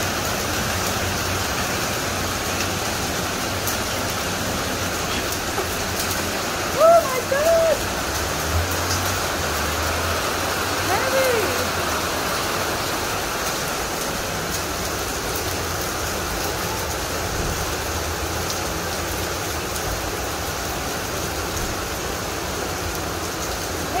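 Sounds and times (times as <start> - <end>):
hailstones ticking on tiles: 0.0 - 9.8, 12.4 - 24.0
hail and rain hissing: 0.0 - 24.0.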